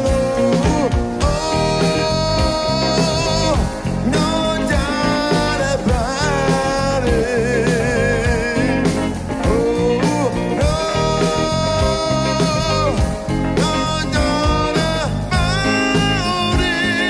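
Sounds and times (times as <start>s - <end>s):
live disco band playing: 0.0s - 17.0s
singer holding long vibrato notes: 0.0s - 17.0s.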